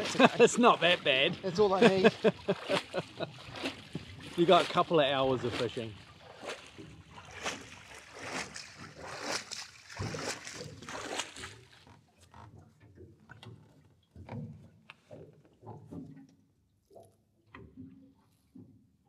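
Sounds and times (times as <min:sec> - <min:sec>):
water splashing against boat: 0:00.0 - 0:19.0.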